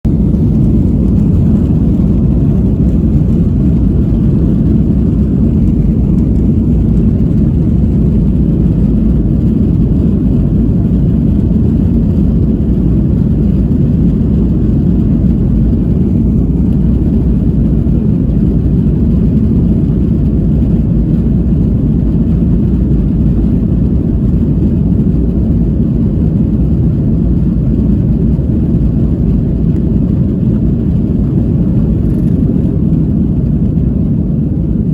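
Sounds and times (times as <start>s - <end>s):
jet airliner engine rumble: 0.0s - 34.9s.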